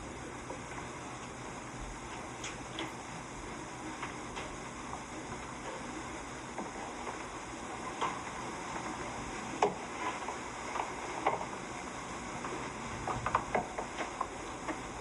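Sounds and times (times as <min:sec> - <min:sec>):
old film soundtrack hiss: 0:00.0 - 0:15.0
faint clicks and ticks: 0:00.4 - 0:15.0.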